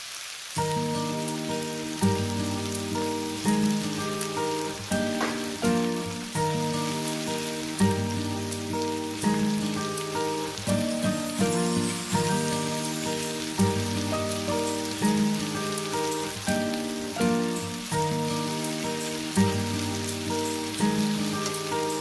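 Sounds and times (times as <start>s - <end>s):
steady rain-like hiss: 0.0s - 22.0s
slow instrumental music: 0.6s - 22.0s.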